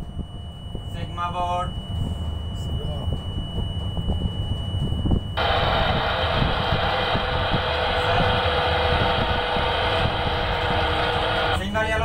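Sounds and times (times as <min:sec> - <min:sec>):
locomotive running rumble: 0:02.2 - 0:12.0.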